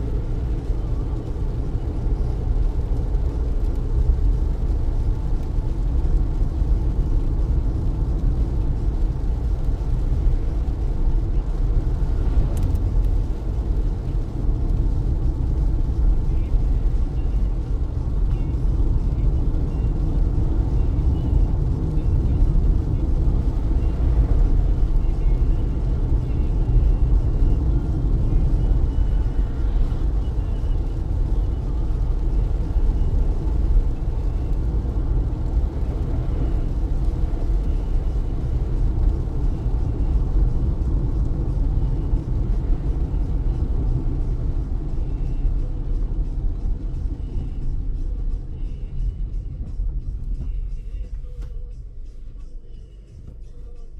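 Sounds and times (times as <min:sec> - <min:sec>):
rain hiss: 0:00.0 - 0:44.0
tyres and engine rumble: 0:00.0 - 0:53.9.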